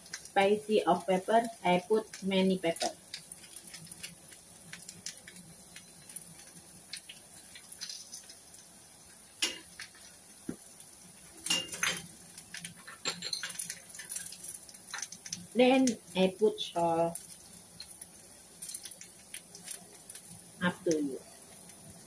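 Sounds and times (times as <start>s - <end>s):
potato strips sizzling in oil: 0.0s - 22.0s.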